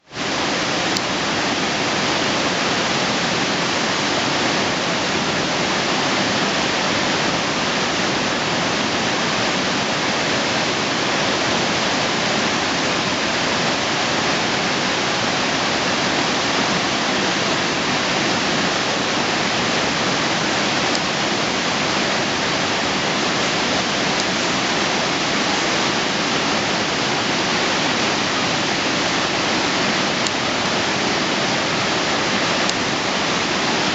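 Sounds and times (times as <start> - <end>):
large waterfall rushing: 0.0 - 33.9.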